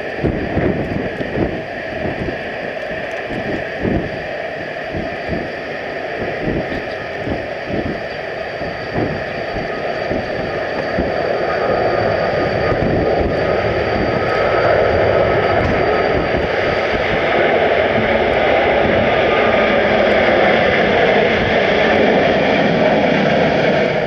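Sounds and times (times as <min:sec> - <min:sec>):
jet engines rumbling: 0:00.0 - 0:24.0
wind buffeting microphone: 0:00.0 - 0:24.0
steady high tone: 0:01.2 - 0:21.9.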